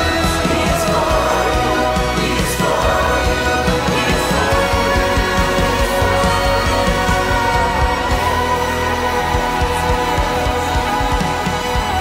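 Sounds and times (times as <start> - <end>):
band with drum beat: 0.0 - 12.0
choir singing in harmony: 0.0 - 12.0.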